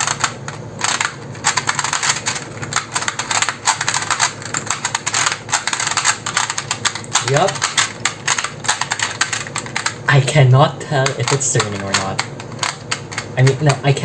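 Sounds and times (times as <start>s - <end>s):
plastic puzzle dials clicking: 0.0s - 10.0s, 11.0s - 13.8s.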